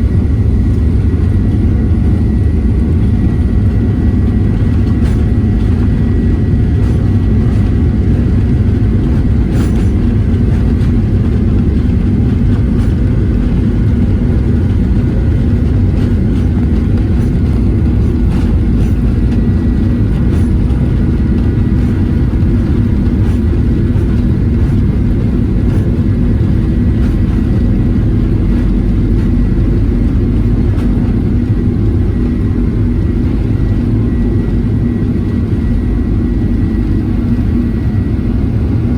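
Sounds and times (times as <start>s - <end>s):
jet engine cabin rumble: 0.0s - 38.9s
thin steady whine: 0.0s - 38.9s.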